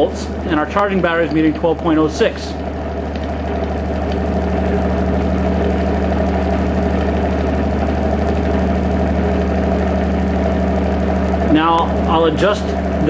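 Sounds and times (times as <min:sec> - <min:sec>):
pulse motor humming: 0:00.0 - 0:13.0.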